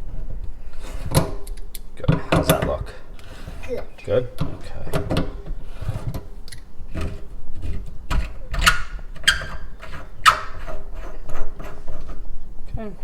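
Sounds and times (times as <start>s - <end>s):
wrench scraping metal: 0.7s - 12.4s.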